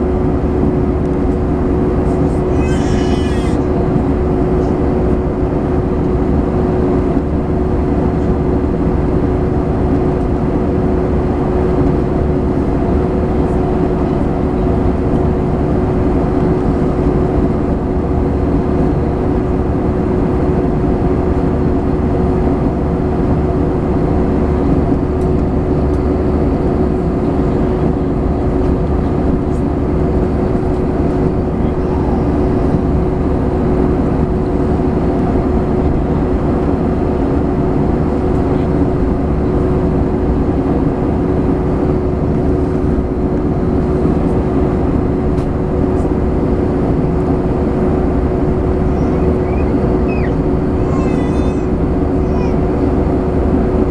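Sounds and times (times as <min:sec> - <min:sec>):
airliner cabin engine and airflow noise: 0:00.0 - 0:53.9.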